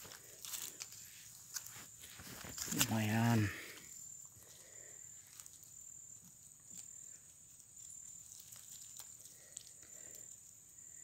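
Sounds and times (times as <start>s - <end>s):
high-pitched insect trill: 0.0s - 11.0s
leaves rustling: 0.0s - 11.0s.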